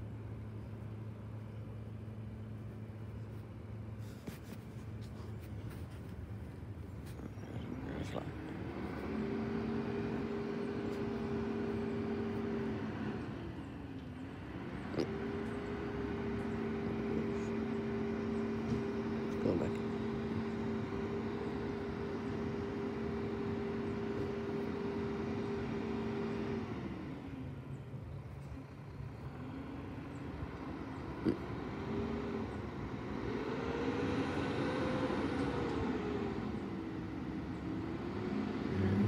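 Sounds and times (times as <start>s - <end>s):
truck engine running and revving: 4.8s - 39.0s.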